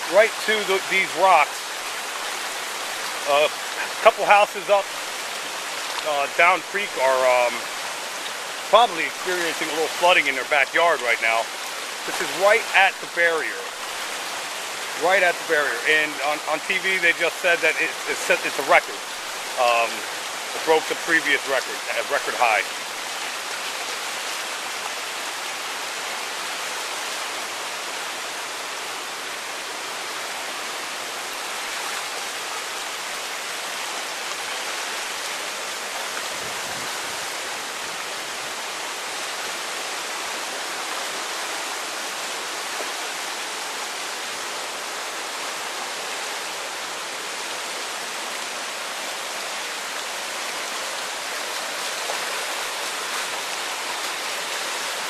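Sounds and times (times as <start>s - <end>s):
floodwater rushing in a creek: 0.0s - 55.0s.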